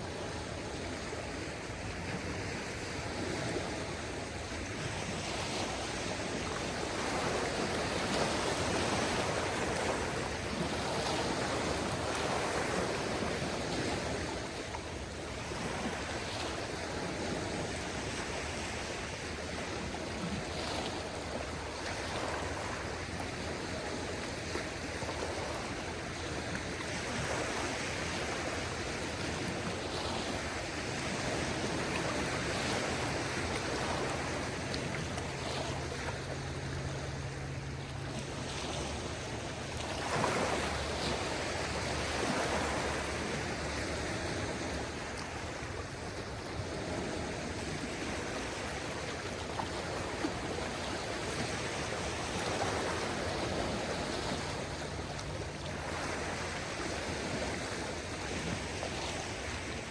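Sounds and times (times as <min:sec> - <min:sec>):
sea water washing on beach: 0:00.0 - 0:59.9.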